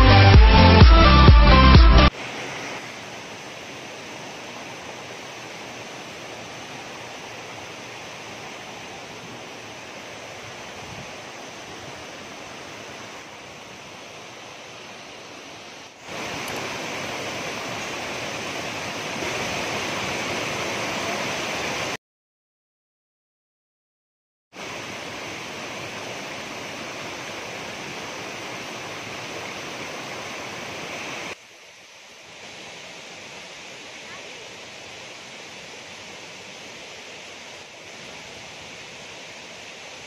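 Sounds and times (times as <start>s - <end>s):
mountain stream rushing: 0.0s - 22.0s, 24.6s - 40.0s.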